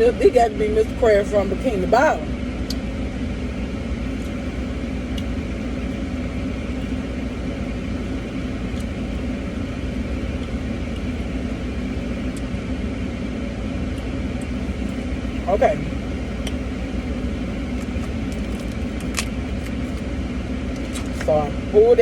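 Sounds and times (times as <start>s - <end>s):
car engine idling: 0.0s - 22.0s
car ventilation running: 0.0s - 22.0s.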